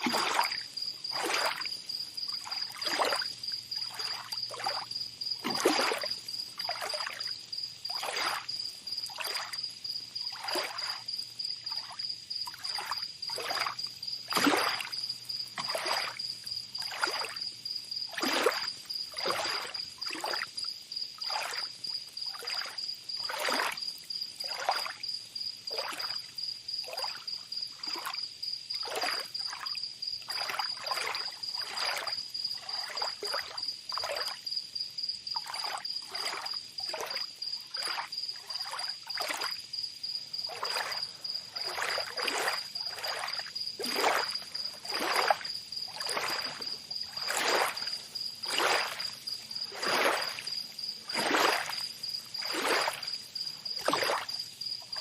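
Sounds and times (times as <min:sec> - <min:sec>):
small waves lapping: 0:00.0 - 0:25.0, 0:25.6 - 0:34.5, 0:35.3 - 0:55.0
high-pitched insect trill: 0:00.0 - 0:55.0.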